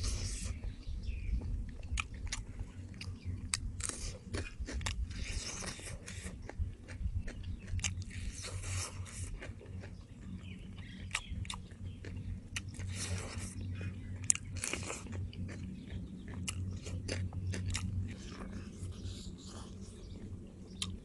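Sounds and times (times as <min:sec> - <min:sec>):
biting and chewing crispy chicken: 0:01.4 - 0:21.0.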